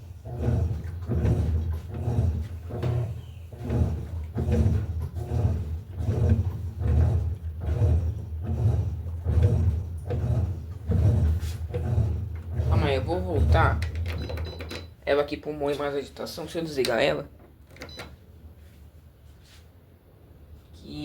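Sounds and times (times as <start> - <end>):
water and laundry sloshing: 0.0 - 17.2
washing machine agitating: 0.0 - 18.3.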